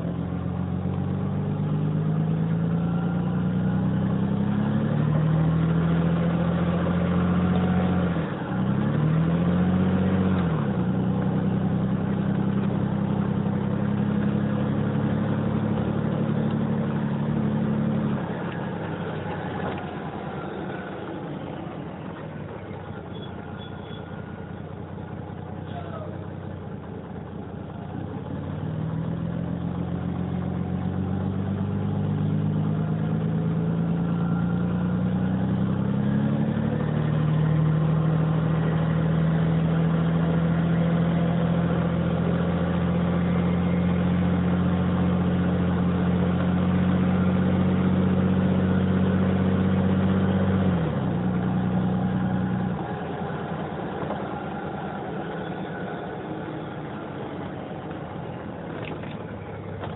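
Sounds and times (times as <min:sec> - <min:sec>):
bus diesel engine pulling away: 0:00.0 - 0:59.9.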